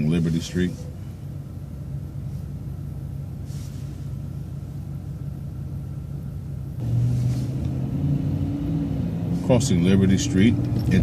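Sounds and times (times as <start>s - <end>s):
bus engine hum: 0.0s - 11.0s.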